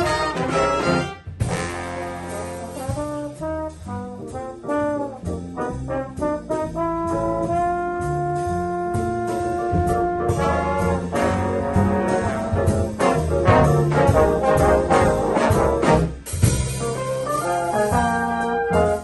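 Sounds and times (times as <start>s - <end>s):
jazz band with brass playing: 0.0s - 19.0s.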